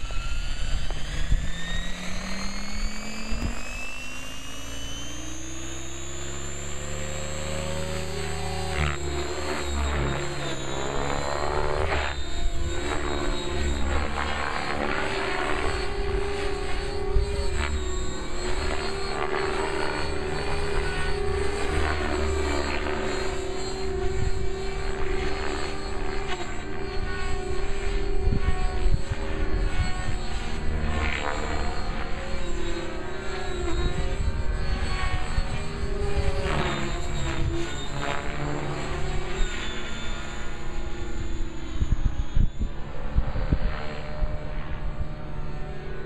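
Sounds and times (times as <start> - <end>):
rc helicopter motor whine: 0.0 - 46.0.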